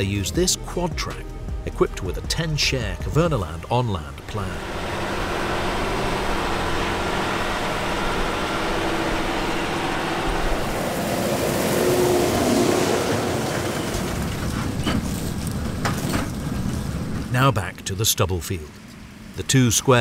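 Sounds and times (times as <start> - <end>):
tractor engine under load: 2.5 - 20.0.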